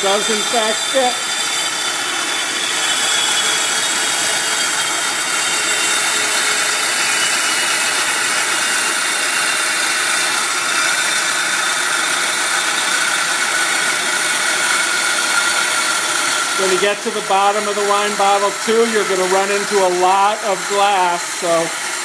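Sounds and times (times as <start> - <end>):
band saw grinding glass: 0.0 - 22.0.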